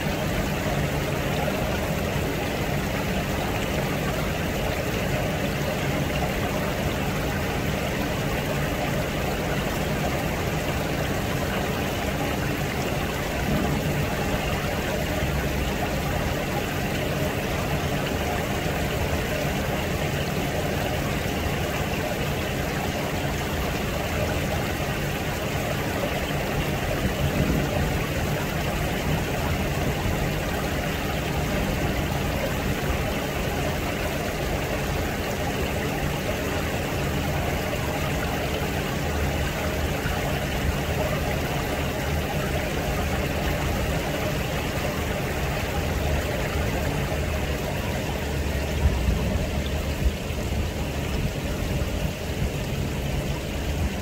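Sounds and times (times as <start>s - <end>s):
low even hum: 0.0s - 54.0s
steady rushing noise: 0.0s - 54.0s.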